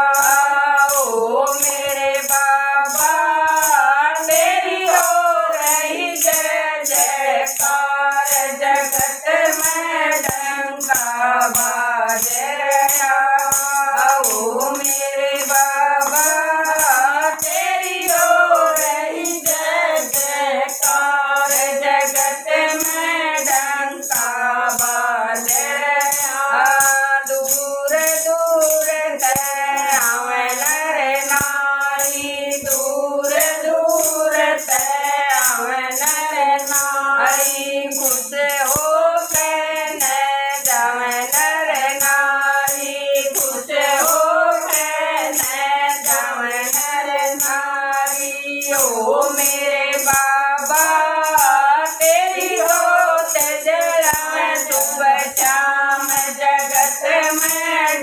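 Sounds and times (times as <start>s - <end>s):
jingling hand percussion: 0.0s - 58.0s
women singing in unison: 0.0s - 58.0s
hand claps: 1.7s - 58.0s.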